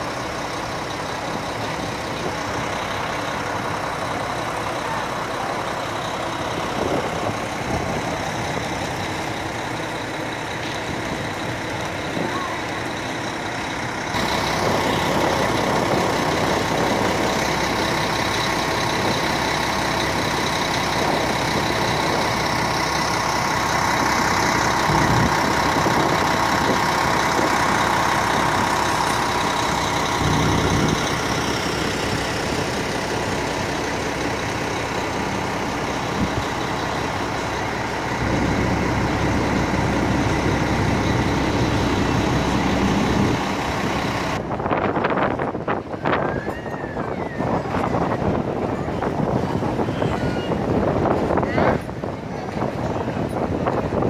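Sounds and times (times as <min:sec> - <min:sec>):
deep heavy engine note: 0:00.0 - 0:54.0
garbage truck diesel engine: 0:00.0 - 0:54.0.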